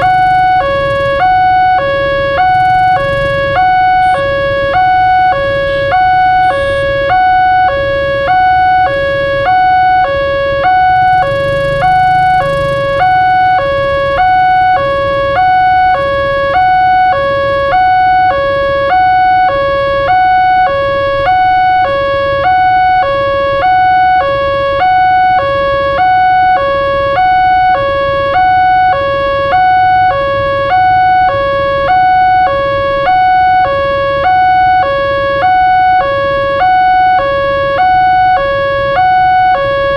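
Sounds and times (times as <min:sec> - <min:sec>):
railroad crossing alarm ding-dong: 0:00.0 - 0:39.9.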